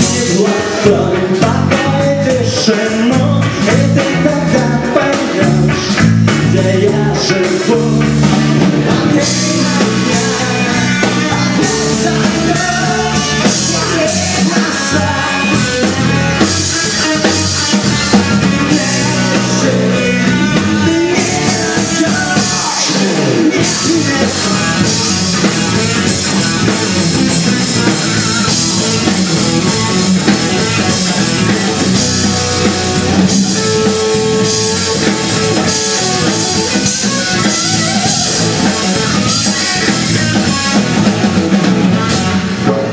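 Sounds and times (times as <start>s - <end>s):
drum kit beat: 0.0s - 42.9s
electric guitar: 0.0s - 42.9s.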